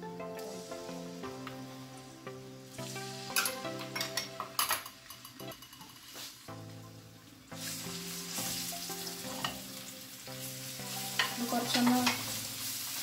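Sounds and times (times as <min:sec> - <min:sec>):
paste sizzling in hot oil: 0:00.1 - 0:13.0.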